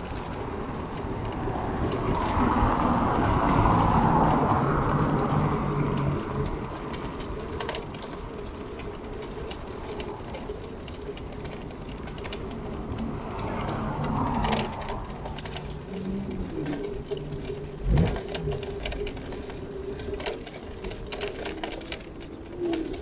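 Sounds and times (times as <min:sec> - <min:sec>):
street and traffic noise: 0:00.0 - 0:23.0.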